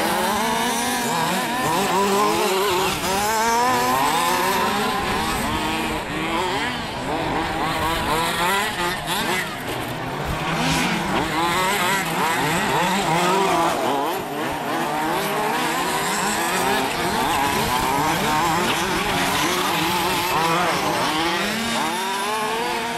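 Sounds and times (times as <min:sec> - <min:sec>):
rc buggy engines revving: 0:00.0 - 0:22.9.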